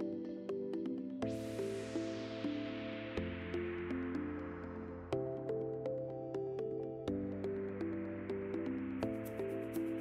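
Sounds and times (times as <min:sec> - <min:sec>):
electronic music with a beat: 0:00.0 - 0:10.0.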